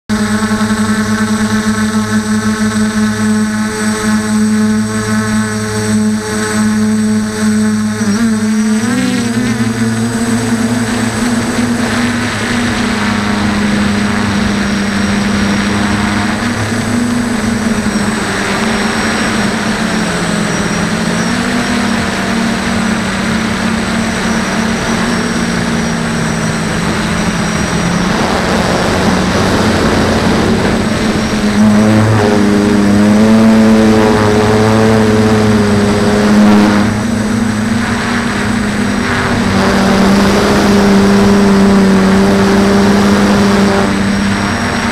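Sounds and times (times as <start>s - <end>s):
drone propellers whining: 0.1s - 44.9s.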